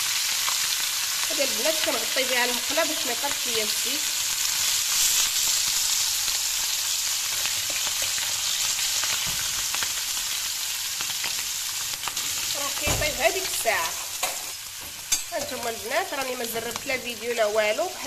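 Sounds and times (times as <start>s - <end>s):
calamari deep-frying in oil: 0.0s - 18.0s.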